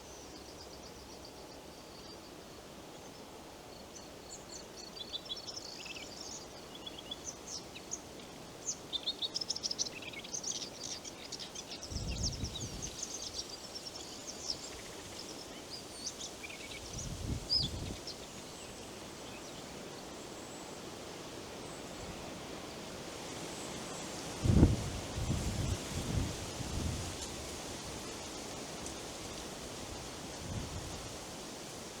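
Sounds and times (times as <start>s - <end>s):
wind in trees: 0.0s - 32.0s.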